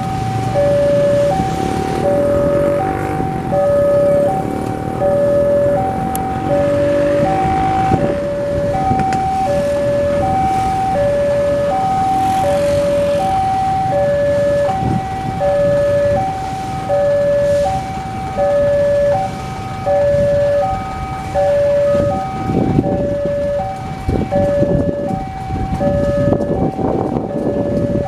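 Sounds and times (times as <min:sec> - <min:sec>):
road traffic rumble: 0:00.0 - 0:28.0
two-tone crossing alarm: 0:00.0 - 0:28.0.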